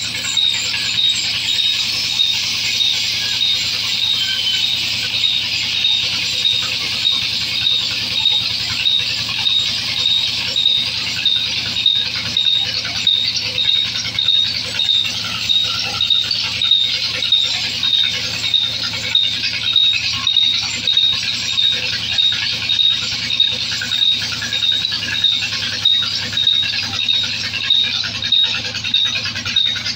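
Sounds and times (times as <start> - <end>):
shrill pulsing squeal: 0.0 - 29.9.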